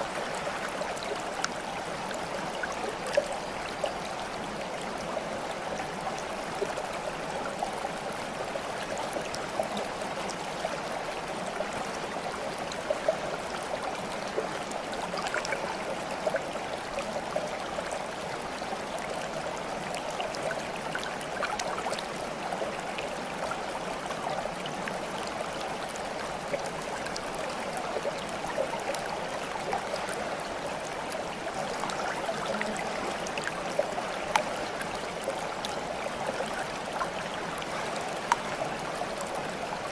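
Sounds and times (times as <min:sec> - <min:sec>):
stream water babbling: 0:00.0 - 0:39.9
water splashes and drips: 0:00.0 - 0:39.9.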